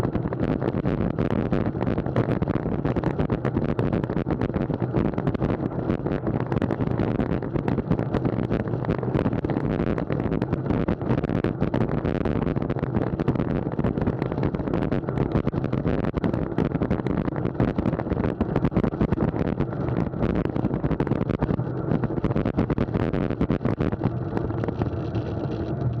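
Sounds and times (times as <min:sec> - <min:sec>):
bicycle tyre and road noise: 0:00.0 - 0:26.0.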